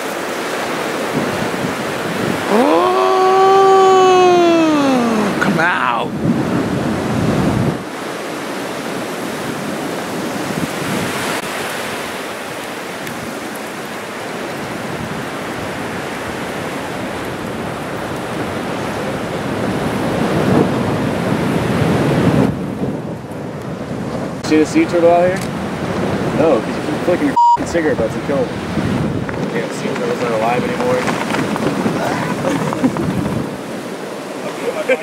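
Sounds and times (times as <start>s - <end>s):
waves crashing: 0.0s - 35.0s
wind buffeting microphone: 0.0s - 35.0s.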